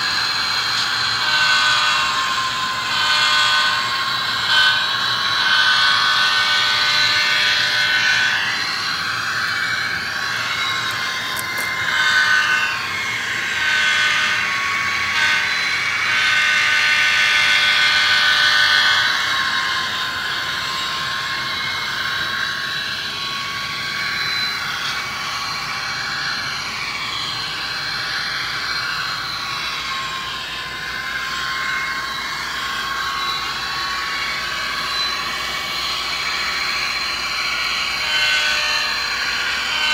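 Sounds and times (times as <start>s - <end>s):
model train motor whine: 0.0s - 39.9s.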